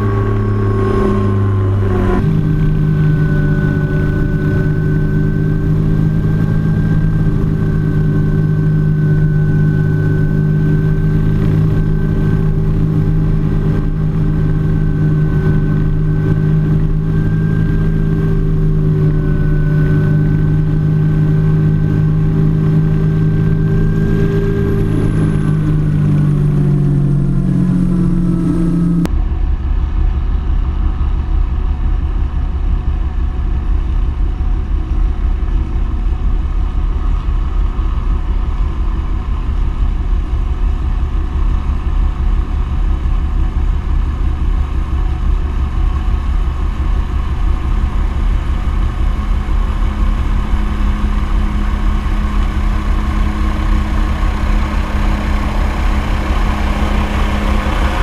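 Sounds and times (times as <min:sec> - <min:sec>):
heavy low rumble: 0:00.0 - 0:58.0
helicopter turbine and rotor: 0:00.0 - 0:58.0.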